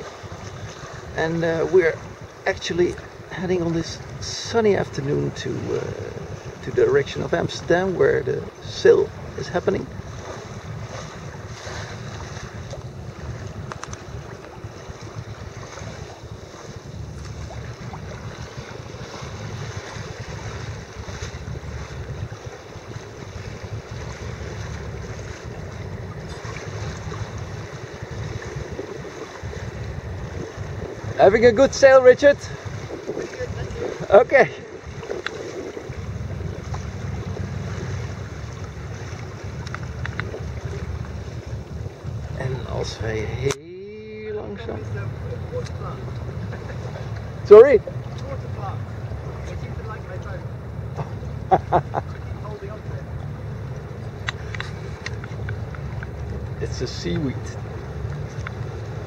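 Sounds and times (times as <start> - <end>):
choppy water splashing around boat: 0.0 - 59.0
wind buffeting microphone: 0.0 - 59.0.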